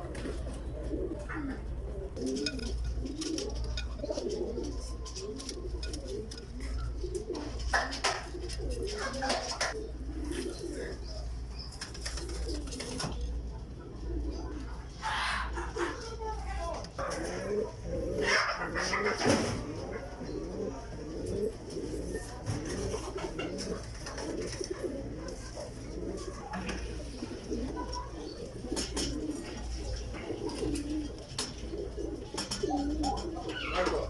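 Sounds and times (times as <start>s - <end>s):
pigeons cooing: 0.0s - 16.2s, 16.9s - 34.0s.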